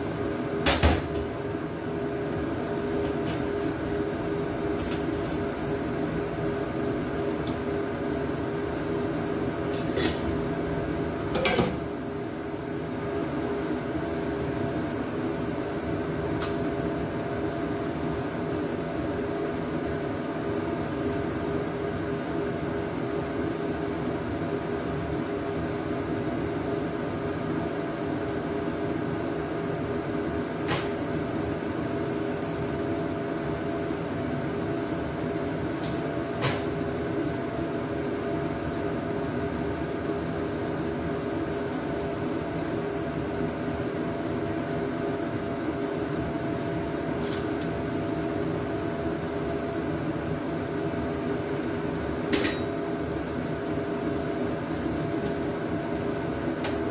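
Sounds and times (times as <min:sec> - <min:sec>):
pots cooking on stove burners: 0:00.0 - 0:56.9.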